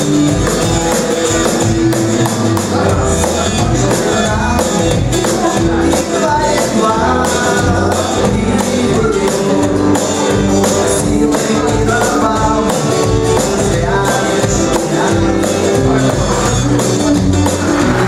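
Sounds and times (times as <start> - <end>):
drums keeping a steady beat: 0.0 - 18.0
electric bass guitar: 0.0 - 18.0
electric guitar: 0.0 - 18.0.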